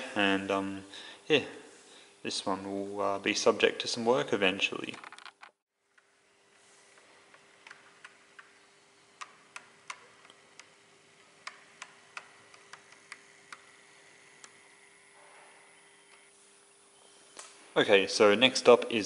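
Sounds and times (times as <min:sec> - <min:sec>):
faint steady hum: 0:00.0 - 0:05.0, 0:05.8 - 0:19.0.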